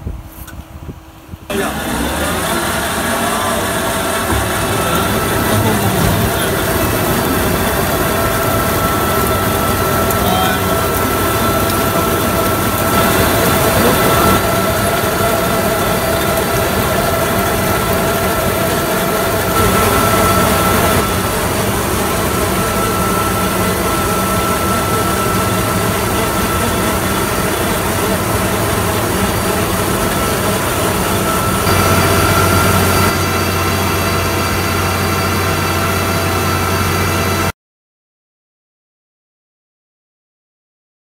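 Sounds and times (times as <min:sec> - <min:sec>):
high mechanical whine: 0:00.0 - 0:37.5
tractor and planter running: 0:01.5 - 0:37.5.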